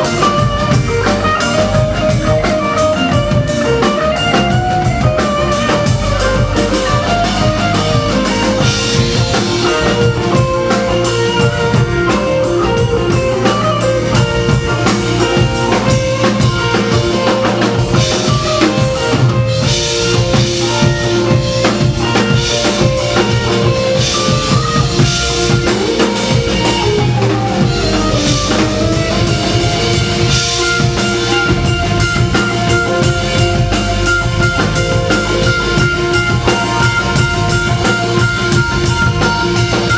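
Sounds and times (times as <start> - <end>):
drum kit with cymbals: 0.0 - 39.9
electric guitars: 0.0 - 39.9
gliding melody line: 0.0 - 39.9.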